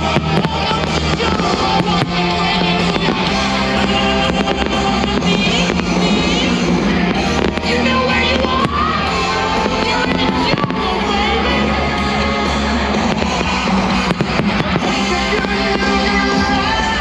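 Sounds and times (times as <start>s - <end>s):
firework bangs: 0.0s - 17.0s
loud show music: 0.0s - 17.0s.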